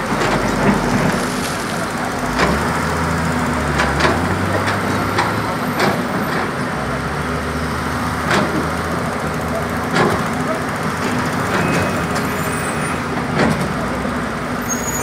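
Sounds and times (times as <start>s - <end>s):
diesel truck engine drone: 0.0s - 15.0s.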